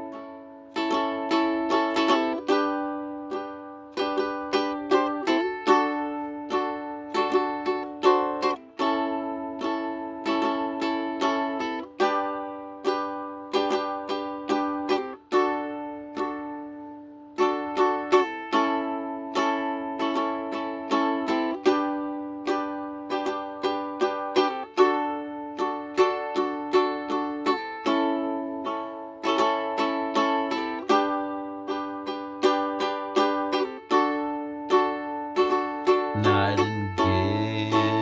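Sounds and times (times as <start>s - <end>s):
solo ukulele playing: 0.0s - 38.0s.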